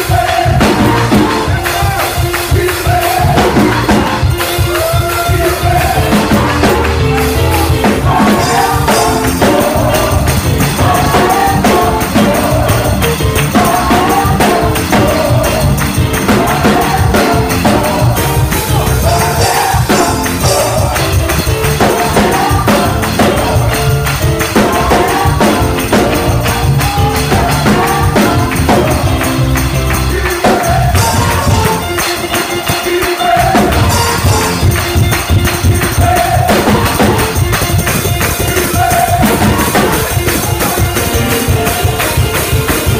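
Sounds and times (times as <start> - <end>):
drum kit: 0.0 - 42.9
group of voices singing: 0.0 - 42.9.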